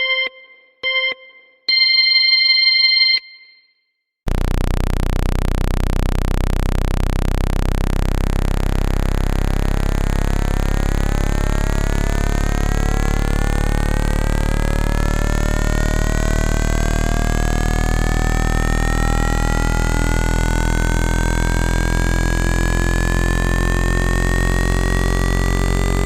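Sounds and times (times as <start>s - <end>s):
low buzzing tone: 4.3s - 26.0s.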